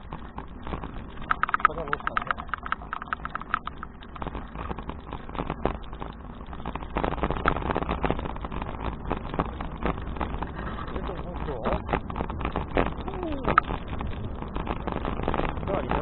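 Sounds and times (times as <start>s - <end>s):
bicycle rattling and clicking: 0.0s - 16.0s
wind and road noise rumble: 0.0s - 16.0s.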